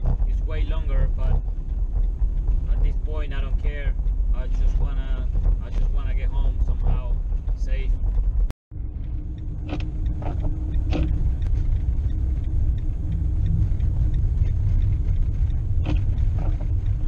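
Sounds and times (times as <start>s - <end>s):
van driving rumble: 0.0s - 17.0s.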